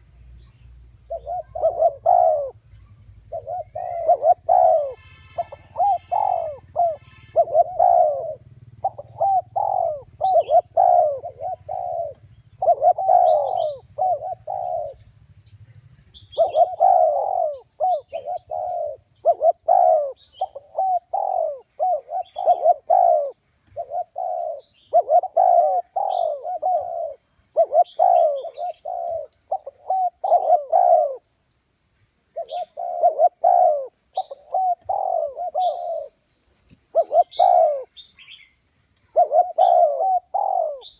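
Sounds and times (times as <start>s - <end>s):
doves cooing: 1.0s - 31.3s, 32.3s - 38.5s, 39.1s - 40.9s.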